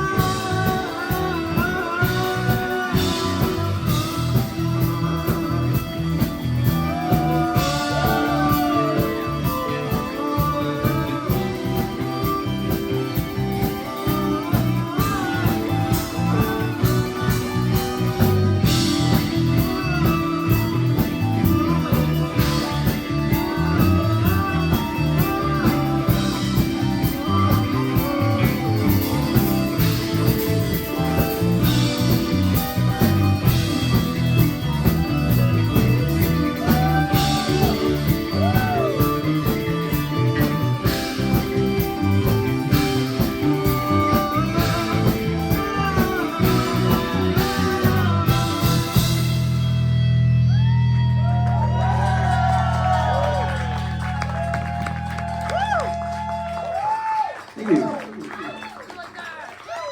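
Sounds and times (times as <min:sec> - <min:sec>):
guitar with bending notes: 0:00.0 - 0:56.4
rock band playing: 0:00.0 - 0:58.7.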